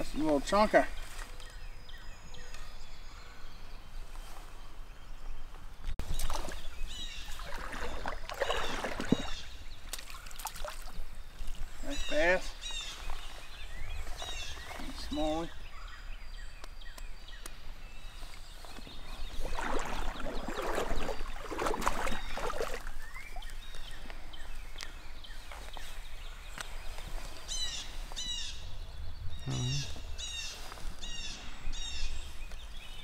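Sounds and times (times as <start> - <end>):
songbird chirping: 0.0 - 33.0.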